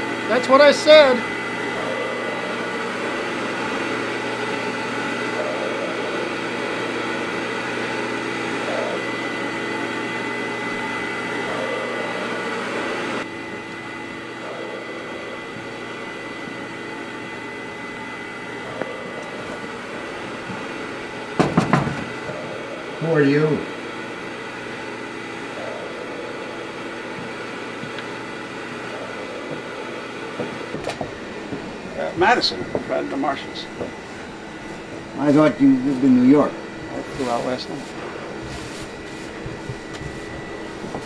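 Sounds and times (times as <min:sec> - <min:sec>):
background hum and hiss: 0:00.0 - 0:41.0.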